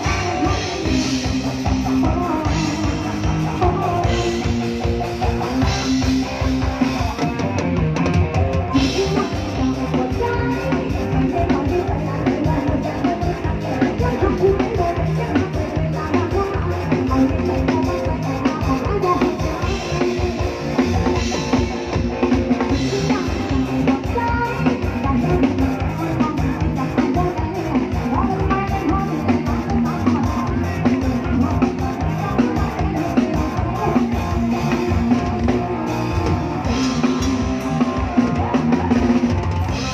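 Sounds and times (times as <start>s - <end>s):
drum kit beat: 0.0s - 39.9s
live band music: 0.0s - 39.9s.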